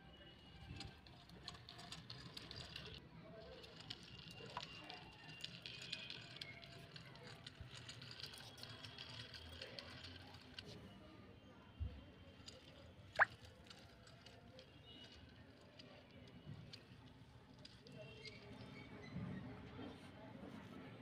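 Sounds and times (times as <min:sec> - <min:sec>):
plastic toy tricycle rattling: 0:00.0 - 0:11.1, 0:11.8 - 0:20.8.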